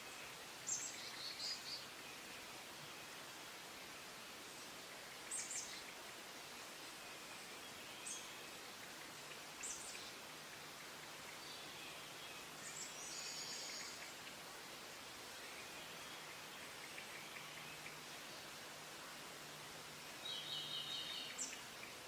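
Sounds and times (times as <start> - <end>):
birds chirping faintly: 0.0 - 22.0
steady background hiss: 0.0 - 22.0.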